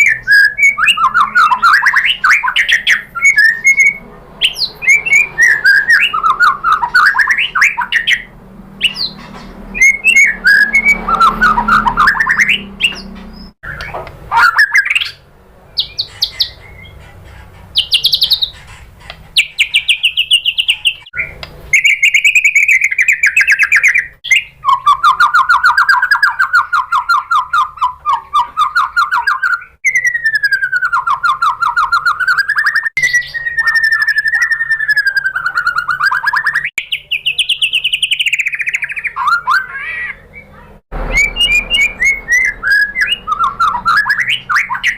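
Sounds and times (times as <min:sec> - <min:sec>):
bird singing whistled trills: 0:00.0 - 0:17.0, 0:17.8 - 0:18.6, 0:19.4 - 0:44.9.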